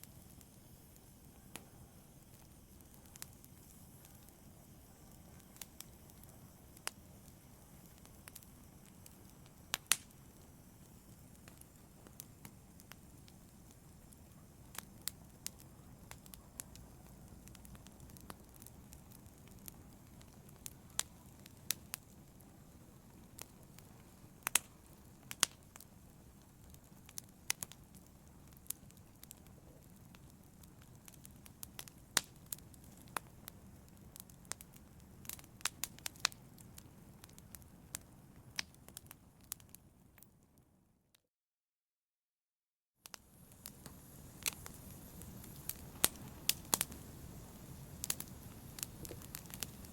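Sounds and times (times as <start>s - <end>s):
wood fire crackling and popping: 0.0s - 40.4s, 43.0s - 49.9s.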